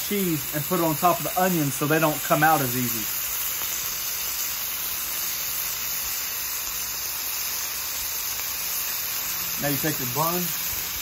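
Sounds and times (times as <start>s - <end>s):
burger patties sizzling on griddle: 0.0s - 11.0s.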